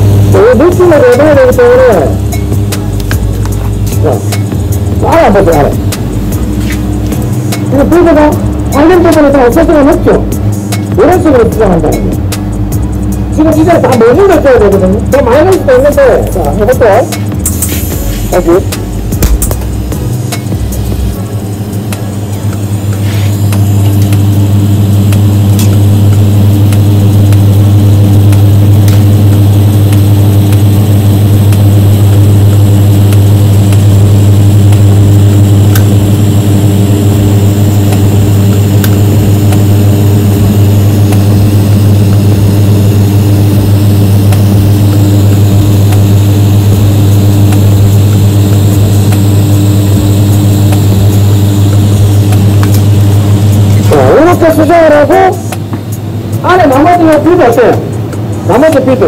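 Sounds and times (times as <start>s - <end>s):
welding arc humming: 0.0s - 59.0s.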